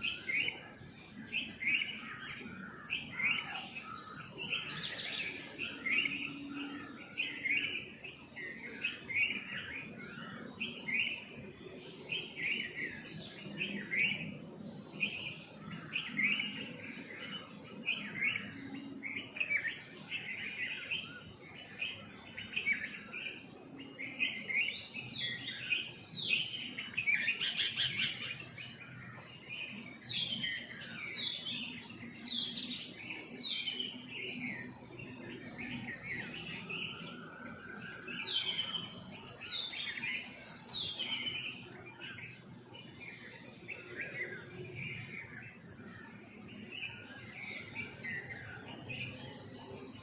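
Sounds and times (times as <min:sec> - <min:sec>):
birds chirping and trilling: 0:00.0 - 0:50.0.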